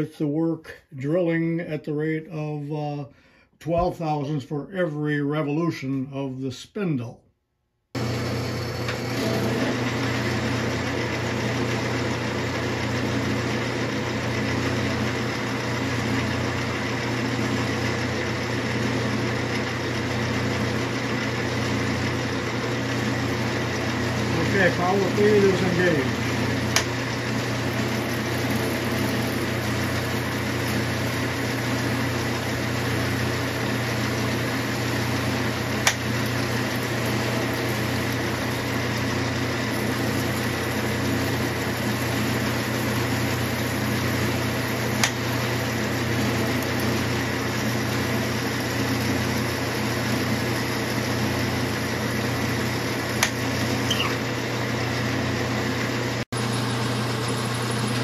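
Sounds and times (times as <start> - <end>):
metal lathe drilling drone: 8.0 - 55.4, 56.1 - 58.0.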